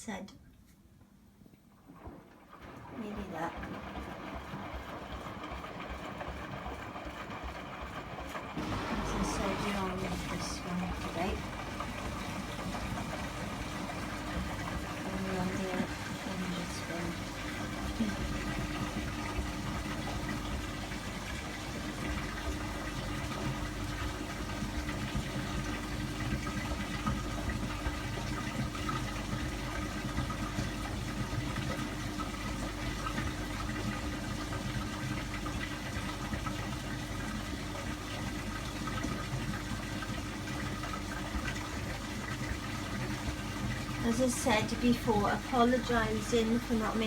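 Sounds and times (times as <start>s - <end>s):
faint machine hum: 0.0s - 47.0s
water rushing in washing machine drum: 1.6s - 47.0s.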